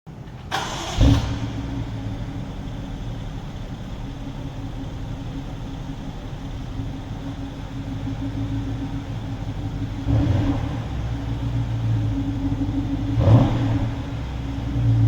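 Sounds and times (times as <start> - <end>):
car engine starting and idling: 0.1 - 15.0.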